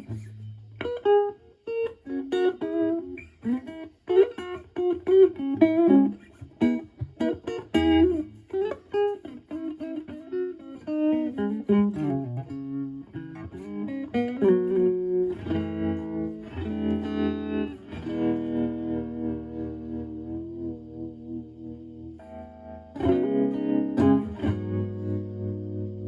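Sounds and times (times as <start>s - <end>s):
clean electric guitar with tremolo: 0.0s - 26.0s.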